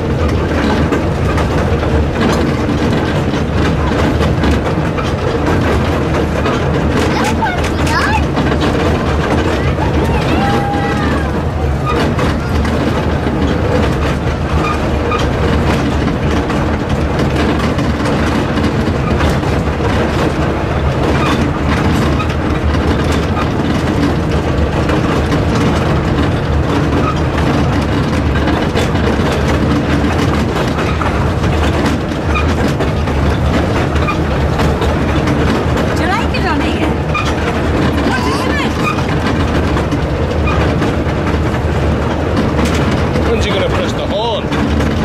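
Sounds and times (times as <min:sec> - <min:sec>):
train low rumble: 0:00.0 - 0:45.0
wheels rattling on rails: 0:00.0 - 0:45.0.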